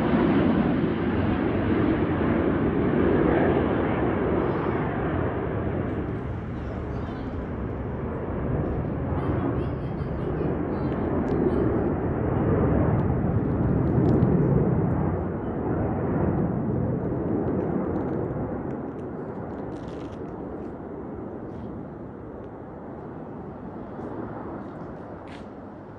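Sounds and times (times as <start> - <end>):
aircraft engine rushing past: 0.0 - 25.9.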